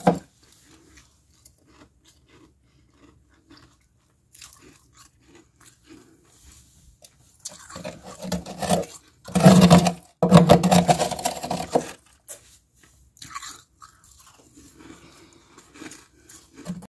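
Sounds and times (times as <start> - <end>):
crunching freezer frost: 0.0 - 16.9.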